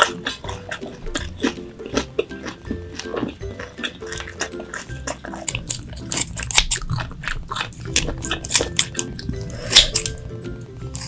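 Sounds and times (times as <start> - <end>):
wet chewing clicks and smacks: 0.0 - 10.2
faint background music: 0.0 - 11.0.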